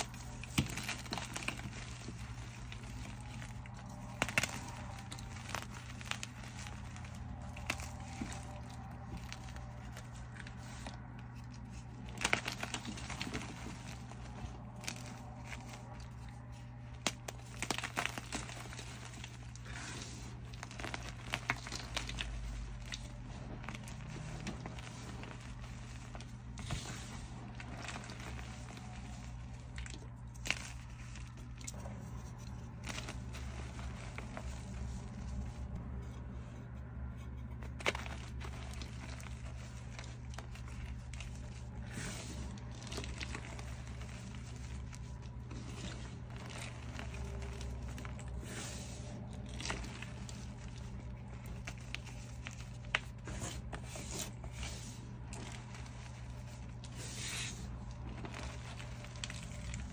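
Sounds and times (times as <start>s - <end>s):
chalk crunching and crumbling: 0.0s - 59.9s
steady low hum: 0.0s - 59.9s.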